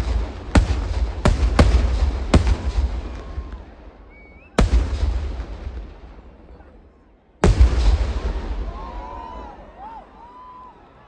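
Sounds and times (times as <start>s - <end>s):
firework cracks: 0.0s - 6.7s, 7.4s - 9.9s
fireworks booming: 0.0s - 10.0s.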